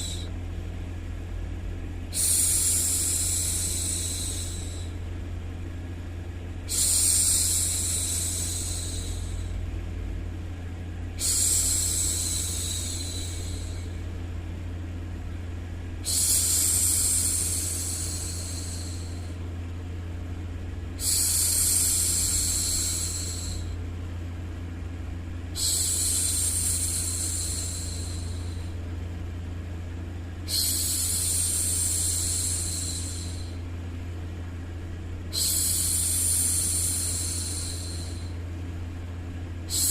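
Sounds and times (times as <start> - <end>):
white noise hum: 0.0 - 39.9.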